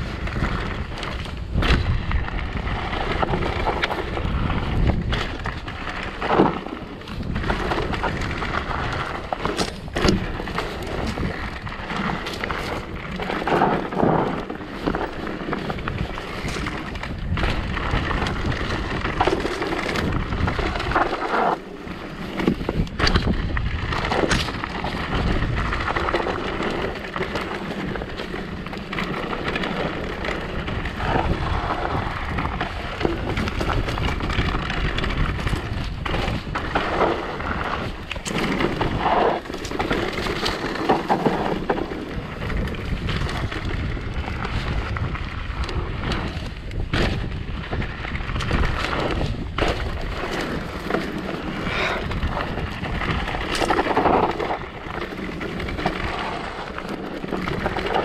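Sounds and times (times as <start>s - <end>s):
bike tyres rattling rumble: 0.0s - 58.0s
wind buffeting microphone: 0.0s - 58.0s.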